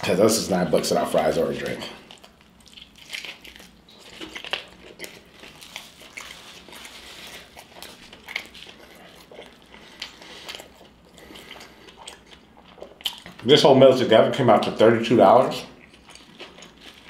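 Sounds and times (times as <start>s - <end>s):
person chewing and eating: 1.0s - 13.5s, 15.5s - 17.0s.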